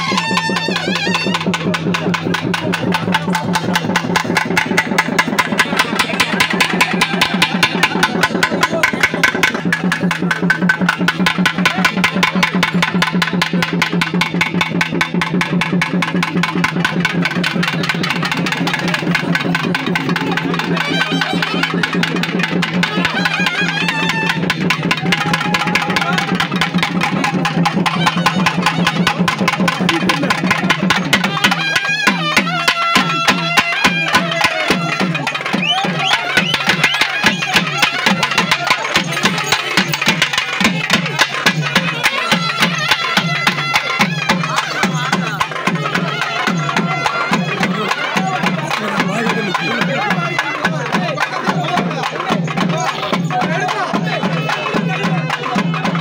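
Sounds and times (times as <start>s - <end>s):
fast drum beat: 0.0s - 56.0s.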